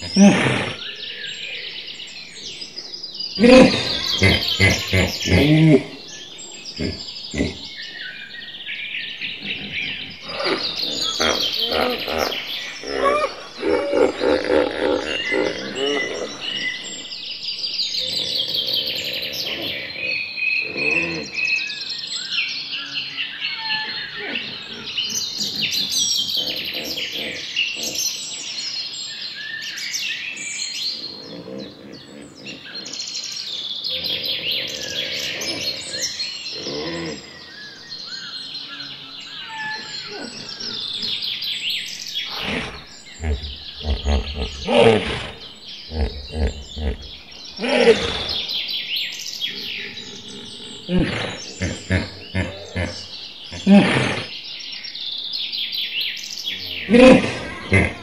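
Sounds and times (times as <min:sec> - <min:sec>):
birds chirping and trilling: 0:00.0 - 0:58.0
low pulsing bird calls: 0:00.0 - 0:58.0.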